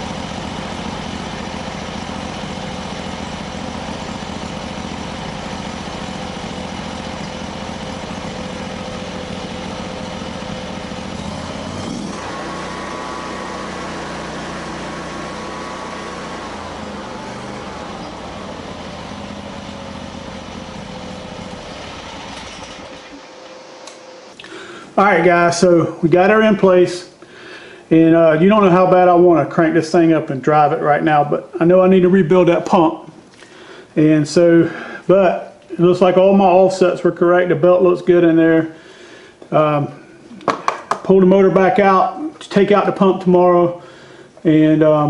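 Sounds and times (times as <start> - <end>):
gasoline engine running: 0.0 - 45.0.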